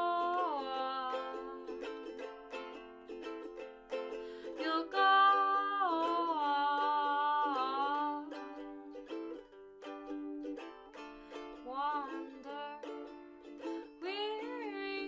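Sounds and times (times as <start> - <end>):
ukulele strumming: 0.0 - 15.0.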